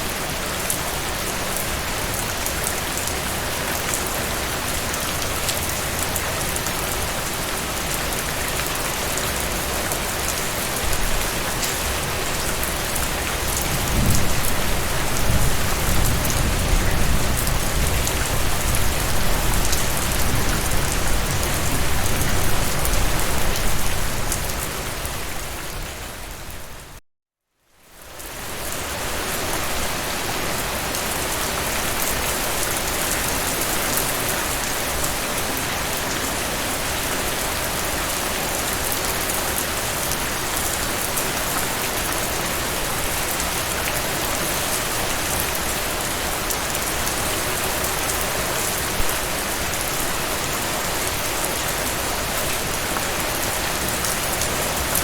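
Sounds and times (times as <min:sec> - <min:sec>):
steady rain: 0:00.0 - 0:27.0, 0:27.7 - 0:55.0.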